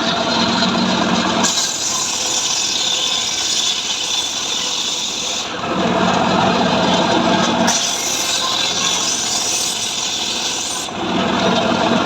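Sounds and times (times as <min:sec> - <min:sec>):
power saw cutting wood: 0:00.0 - 0:12.0.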